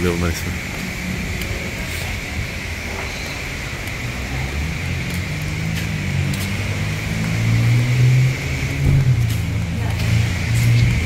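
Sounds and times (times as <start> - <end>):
car engine hum: 0.0 - 11.0
road noise: 0.0 - 11.0.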